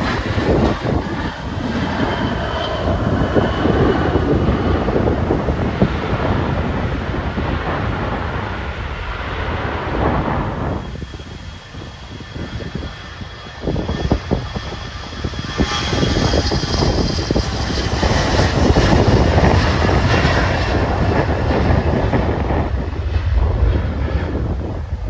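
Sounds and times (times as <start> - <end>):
jet engines at takeoff thrust: 0.0 - 25.0.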